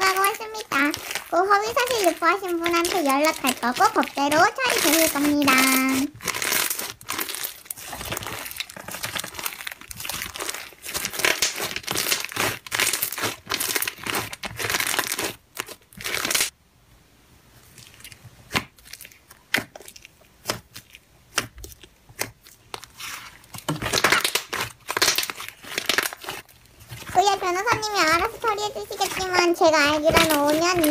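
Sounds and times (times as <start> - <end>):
slime crackling and popping: 0.0 - 16.5, 17.7 - 30.9.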